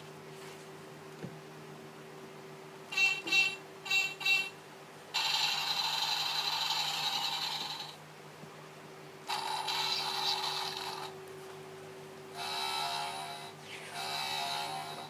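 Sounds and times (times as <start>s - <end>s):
faint electronic hum: 0.0s - 15.0s.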